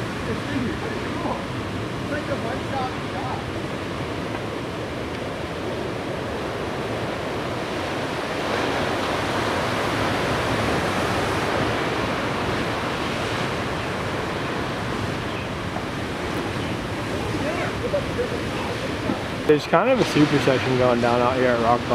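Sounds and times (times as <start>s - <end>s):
ocean waves breaking: 0.0s - 21.9s.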